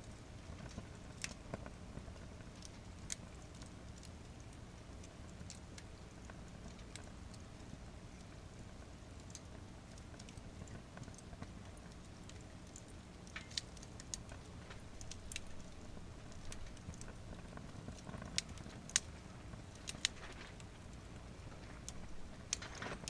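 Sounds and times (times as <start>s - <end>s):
firewood crackling and popping: 0.0s - 23.0s
low rush of flames: 0.0s - 23.0s.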